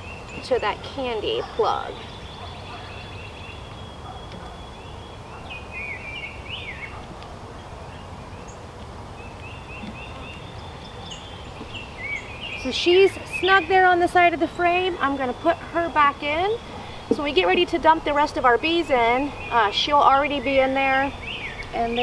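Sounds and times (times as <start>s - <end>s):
low background noise: 0.0s - 22.0s
songbirds chirping: 0.0s - 22.0s.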